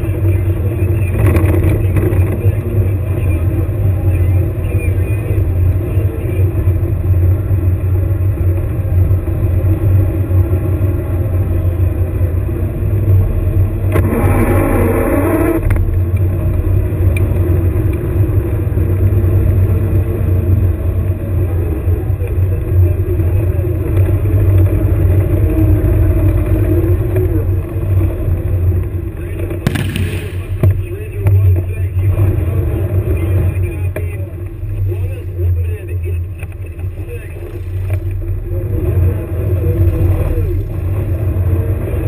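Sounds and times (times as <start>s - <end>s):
vehicle engine droning: 0.0s - 42.0s.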